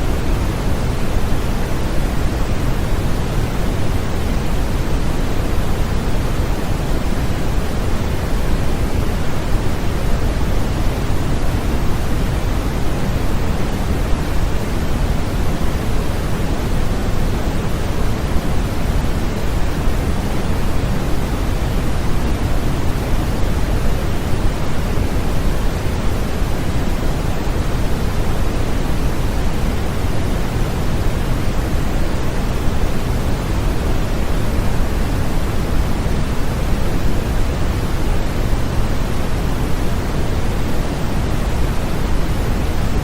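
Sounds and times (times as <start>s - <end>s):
low rushing noise hiss: 0.0s - 43.0s.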